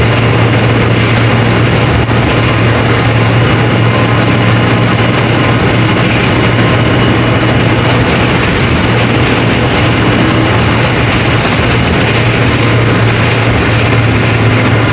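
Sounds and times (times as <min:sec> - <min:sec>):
bus diesel engine humming: 0:00.0 - 0:14.9
road noise: 0:00.0 - 0:14.9.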